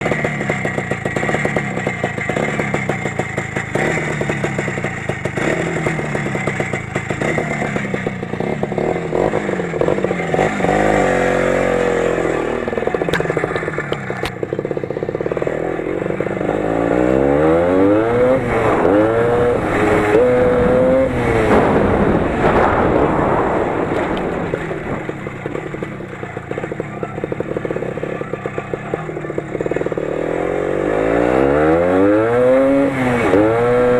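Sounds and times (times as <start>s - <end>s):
suspension knocking and rattling: 0.0s - 11.0s, 11.9s - 16.6s, 18.0s - 30.2s
engine revving under load: 3.7s - 33.9s.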